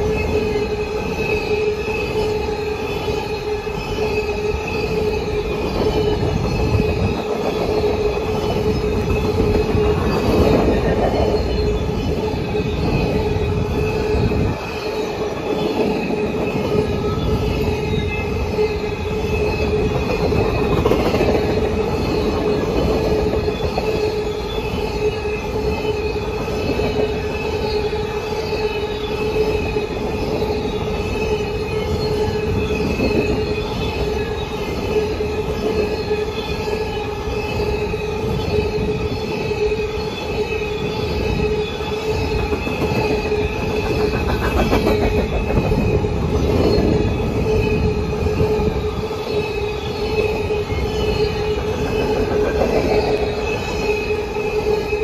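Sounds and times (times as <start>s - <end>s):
high-pitched wheel squeal: 0.0s - 55.0s
train wheels rumbling on rails: 0.0s - 55.0s.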